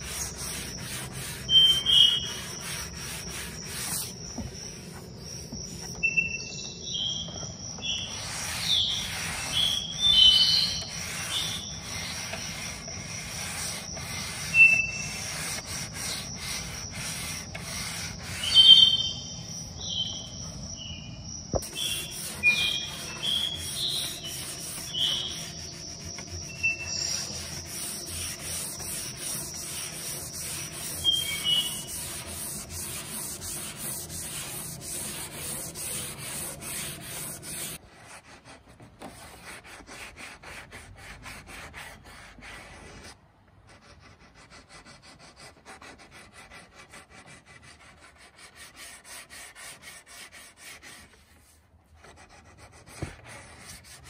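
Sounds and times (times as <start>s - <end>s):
sandpaper rubbing wood: 0.0s - 6.1s, 7.1s - 19.9s, 21.6s - 54.0s.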